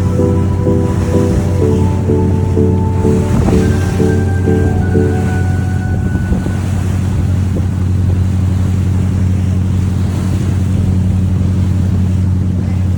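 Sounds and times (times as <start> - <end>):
motorboat engine droning: 0.0 - 12.9
water noise: 0.0 - 12.9
wind on microphone: 0.0 - 12.9.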